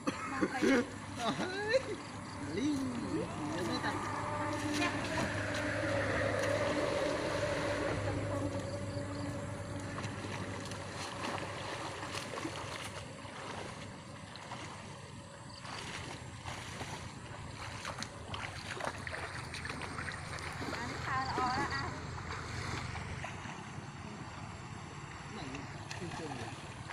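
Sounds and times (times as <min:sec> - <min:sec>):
steady hum: 0:00.0 - 0:26.9
water sloshing and splashing: 0:00.4 - 0:26.9.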